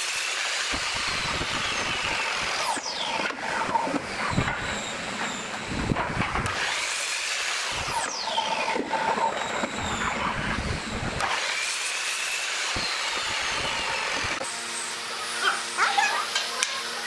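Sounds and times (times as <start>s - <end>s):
mitre saw cutting wood: 0.0s - 17.0s.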